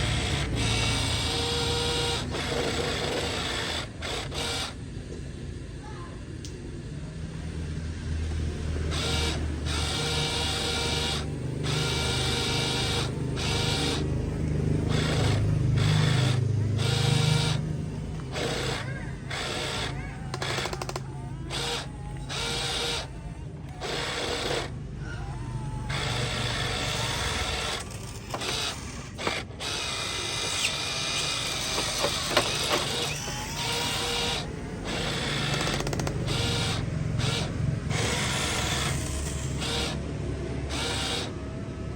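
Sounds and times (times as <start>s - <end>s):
small electric motors whirring: 0.0s - 41.9s.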